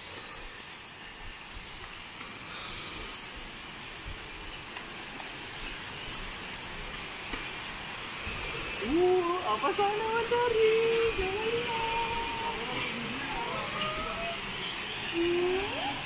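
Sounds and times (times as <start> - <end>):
insect chorus: 0.0 - 16.0
steady hiss: 0.0 - 16.0.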